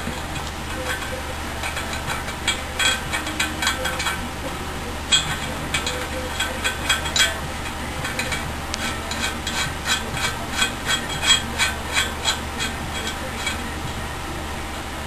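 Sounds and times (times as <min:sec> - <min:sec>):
tool clicking on metal parts: 0:00.0 - 0:14.1
low steady hum: 0:00.0 - 0:15.0.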